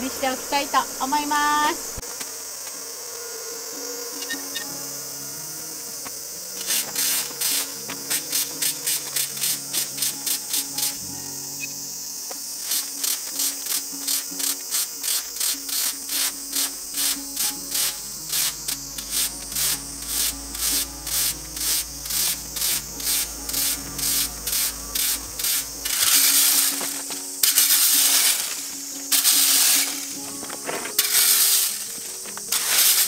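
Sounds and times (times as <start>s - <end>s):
rake scraping on asphalt: 0.0s - 33.0s.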